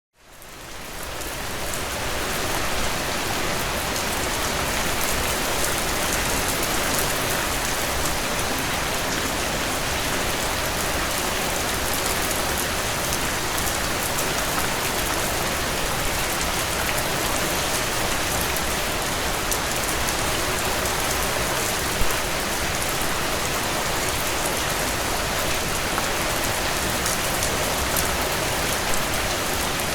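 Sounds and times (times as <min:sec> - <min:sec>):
steady rain falling: 0:00.2 - 0:29.9.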